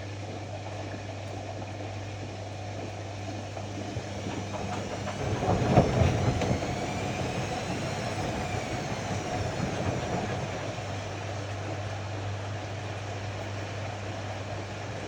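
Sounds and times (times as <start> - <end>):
faint motor whine: 0.0 - 15.0
washer-dryer hum and drum noise: 0.0 - 15.0.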